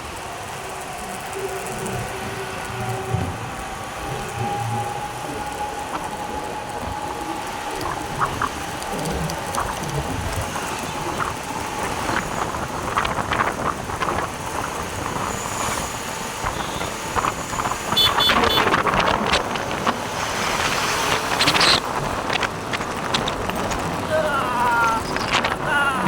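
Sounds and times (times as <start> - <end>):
road and wind rush: 0.0 - 26.0
wind buffeting microphone: 0.0 - 26.0.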